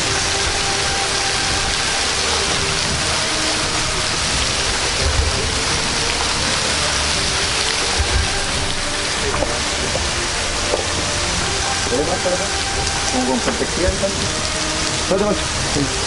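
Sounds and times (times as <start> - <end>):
low thumps: 0.0 - 16.0
waterfall rushing: 0.0 - 16.0.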